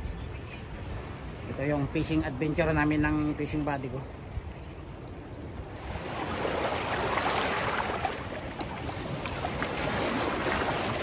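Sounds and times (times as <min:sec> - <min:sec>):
sea waves washing among boulders: 0:00.0 - 0:11.0.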